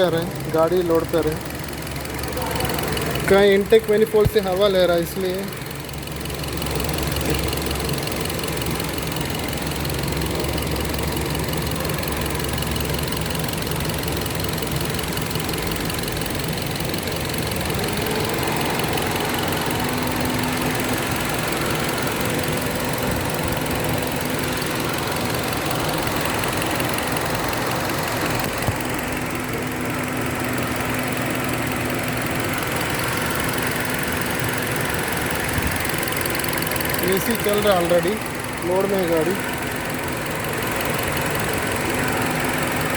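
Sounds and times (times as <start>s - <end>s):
car engine idling unevenly: 0.0s - 42.9s.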